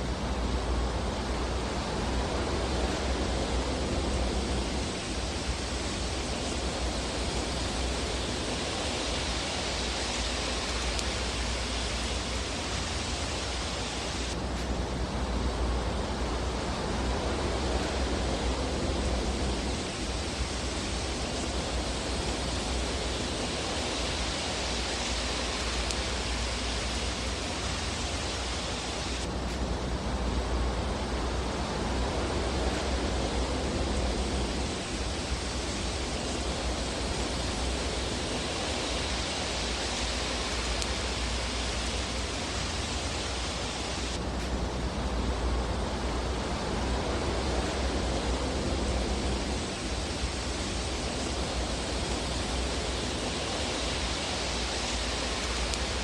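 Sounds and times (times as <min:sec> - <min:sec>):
bright hiss: 0:00.0 - 0:56.0
fireplace hiss and rumble: 0:00.0 - 0:56.0.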